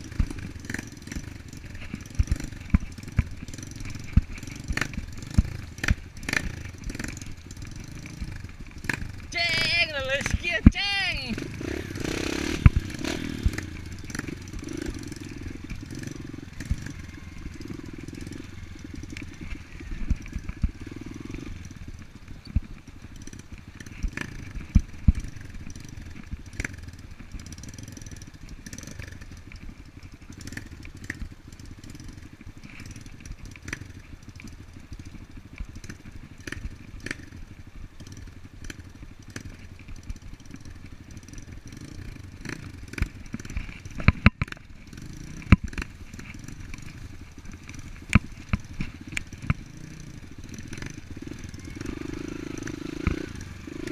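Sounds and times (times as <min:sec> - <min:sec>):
bike clattering and rattling: 0:00.0 - 0:09.4, 0:11.4 - 0:53.9
dirt bike engine: 0:00.0 - 0:53.9.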